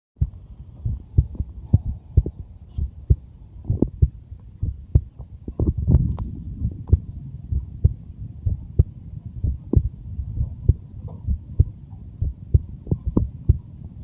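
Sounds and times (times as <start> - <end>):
heartbeat thumps: 0.2 - 13.7.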